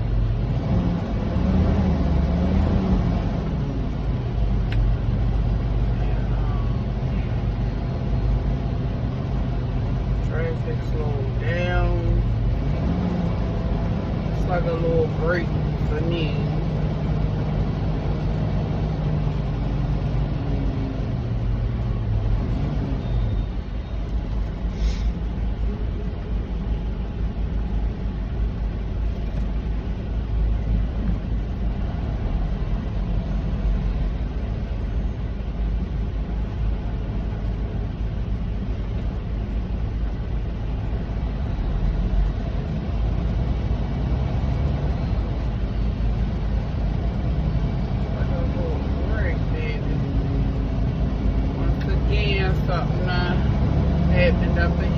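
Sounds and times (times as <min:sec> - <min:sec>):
diesel truck engine rumble: 0:00.0 - 0:54.9.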